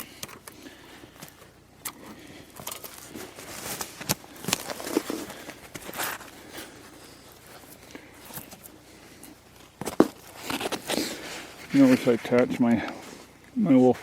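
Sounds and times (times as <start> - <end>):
footsteps crunching: 2.5 - 14.0.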